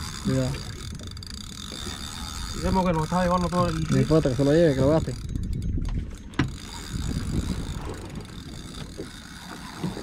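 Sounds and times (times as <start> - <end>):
fishing reel ratcheting: 0.0 - 10.0.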